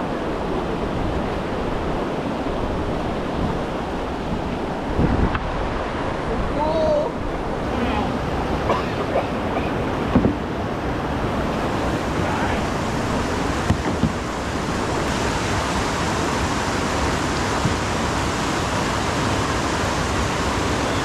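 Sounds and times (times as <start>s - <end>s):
whitewater rushing: 0.0s - 21.0s.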